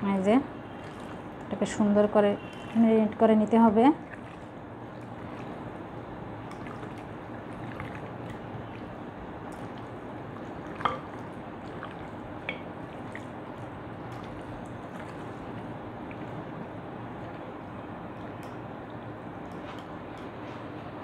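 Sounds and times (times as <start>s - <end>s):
wet squelching of kneaded meat: 0.1s - 19.8s.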